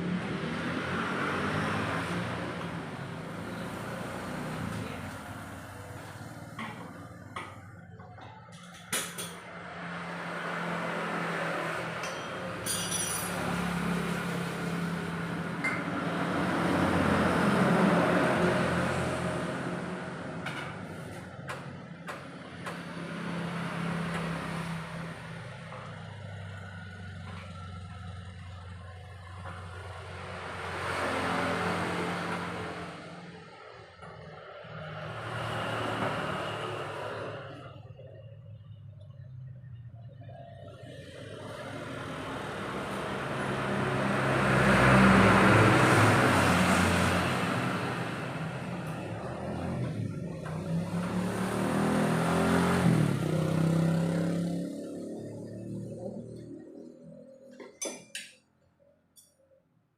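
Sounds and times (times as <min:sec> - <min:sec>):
motor vehicle engine: 0:00.0 - 0:57.8.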